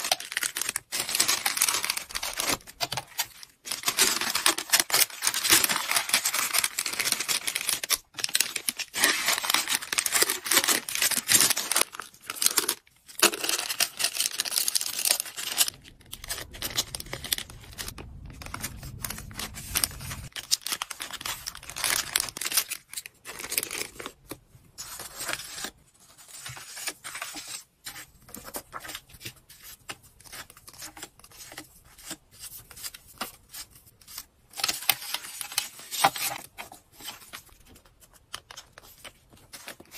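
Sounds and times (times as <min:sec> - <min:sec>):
paper and plastic packaging rustling: 0:00.0 - 0:39.9.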